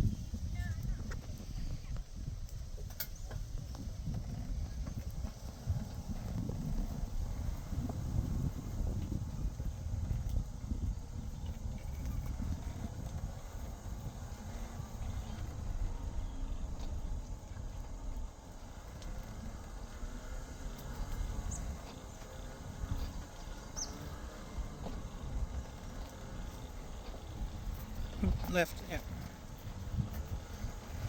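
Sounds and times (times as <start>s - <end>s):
wind rumble on microphone: 0.0s - 31.0s.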